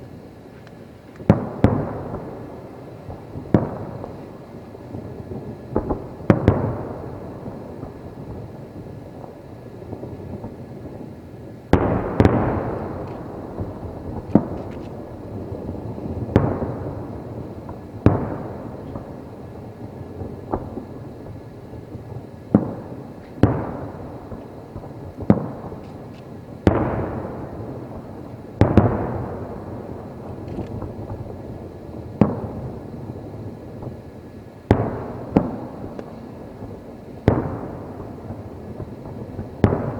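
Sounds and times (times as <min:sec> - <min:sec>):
firework shells booming: 0:01.1 - 0:39.9.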